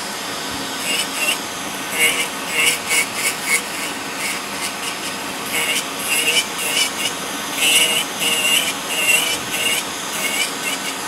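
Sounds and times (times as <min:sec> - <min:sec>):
nail drill grinding toenail: 0:00.8 - 0:11.0.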